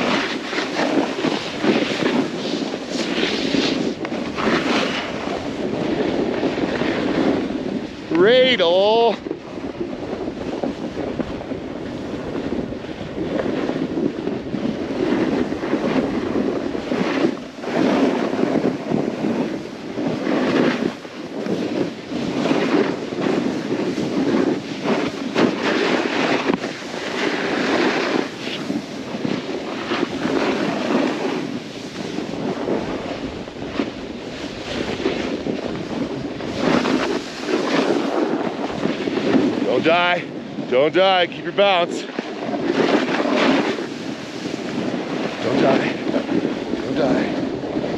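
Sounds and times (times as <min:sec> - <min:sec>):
snowboard carving through snow: 0:00.0 - 0:47.9
wind on microphone: 0:00.0 - 0:47.9.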